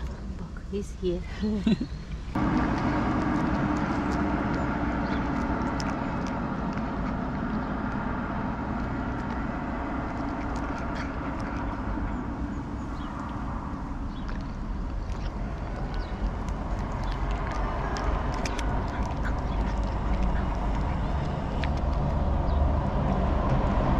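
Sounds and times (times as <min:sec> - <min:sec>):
car rumbling on street: 0:01.6 - 0:23.9
cat chewing dry kibble: 0:02.1 - 0:23.9.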